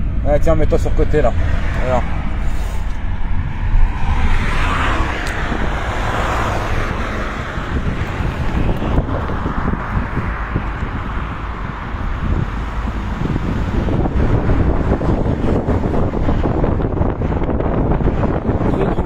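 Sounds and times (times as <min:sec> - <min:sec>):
low road rumble: 0:00.0 - 0:19.0
wind rushing over microphone: 0:00.0 - 0:19.0.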